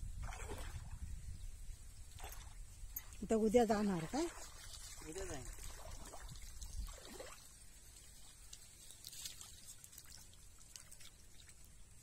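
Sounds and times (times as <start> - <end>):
water dripping and splashing: 2.1 - 12.0.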